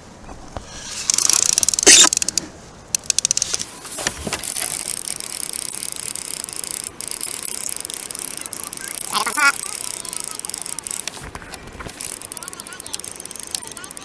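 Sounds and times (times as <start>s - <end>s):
fishing reel clicking rapidly: 1.0s - 3.7s, 4.4s - 11.2s, 11.9s - 14.0s.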